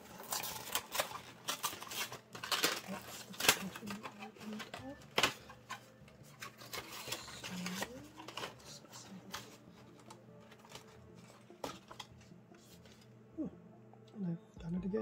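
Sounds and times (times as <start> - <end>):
paper rustling and clicks: 0.0 - 13.1.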